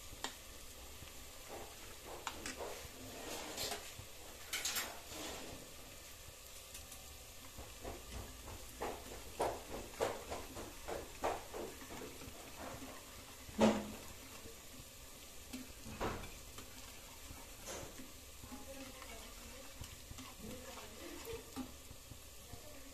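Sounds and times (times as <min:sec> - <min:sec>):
whisk knocking bowl: 0:00.1 - 0:03.0, 0:06.7 - 0:22.9
whisk scraping against bowl: 0:01.4 - 0:06.0, 0:06.7 - 0:22.9.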